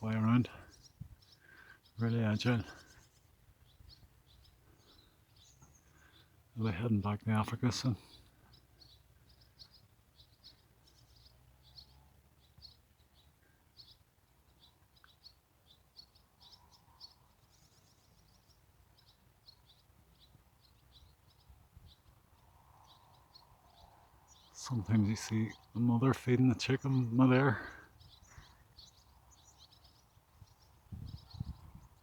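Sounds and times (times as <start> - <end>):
swifts calling: 0.0 - 32.0.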